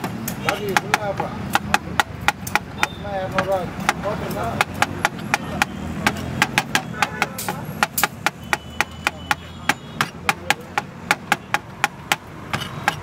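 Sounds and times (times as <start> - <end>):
cleaver chopping on cutting board: 0.0 - 13.0.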